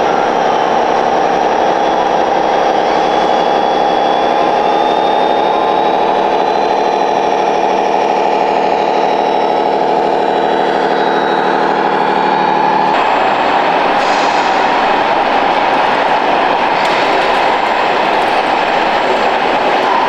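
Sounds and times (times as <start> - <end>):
electronic diesel truck idling sound: 0.0 - 20.0.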